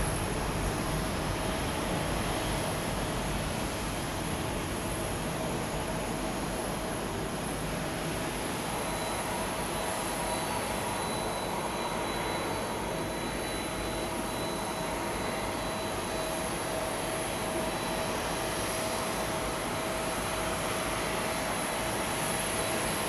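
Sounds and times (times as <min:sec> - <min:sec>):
jet engines running at low power: 0:00.0 - 0:23.0.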